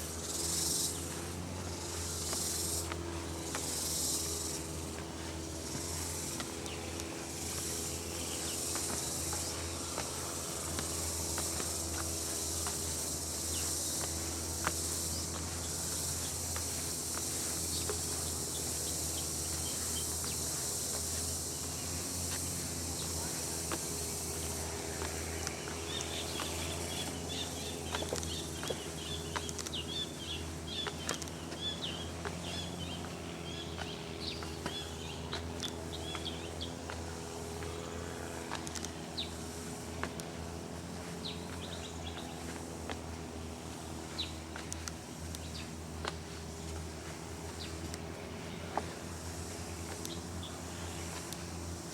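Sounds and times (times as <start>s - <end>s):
insects buzzing: 0.0s - 51.9s
steady low hum: 0.0s - 51.9s.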